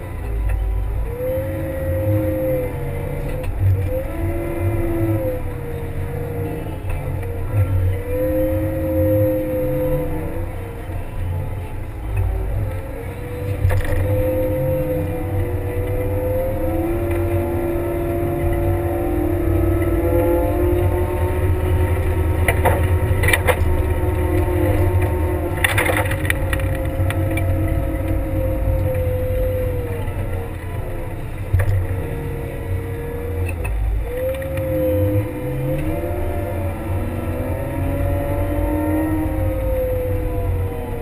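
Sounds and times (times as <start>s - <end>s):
diesel engine under load: 0.0s - 41.0s
clunks: 2.7s - 41.0s.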